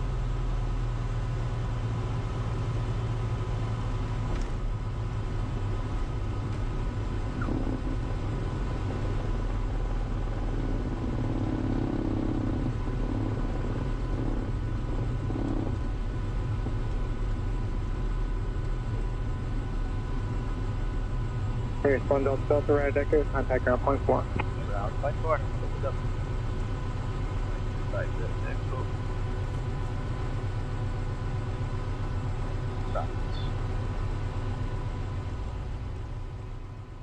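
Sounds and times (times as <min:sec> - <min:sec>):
aircraft engine idling: 0:00.0 - 0:37.0.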